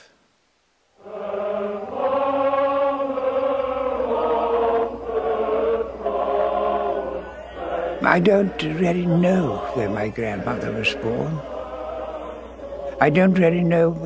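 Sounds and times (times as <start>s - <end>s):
voices singing chant-like notes: 0.9s - 14.0s.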